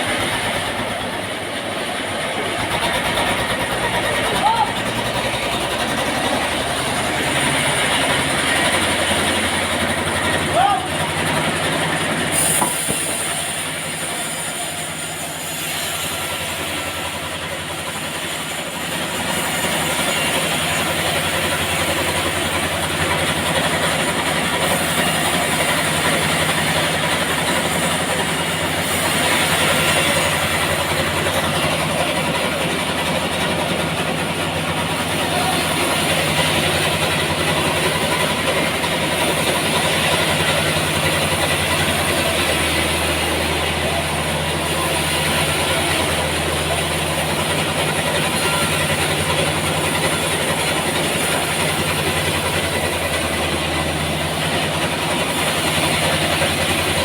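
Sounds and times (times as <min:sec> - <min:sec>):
saw rushing: 0:02.6 - 0:57.0.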